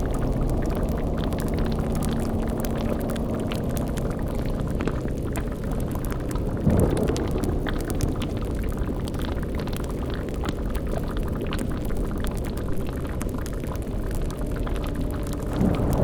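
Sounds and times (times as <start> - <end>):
fire crackling: 0.0 - 16.0
liquid bubbling: 0.0 - 16.0
low rumble and drone: 0.0 - 16.0.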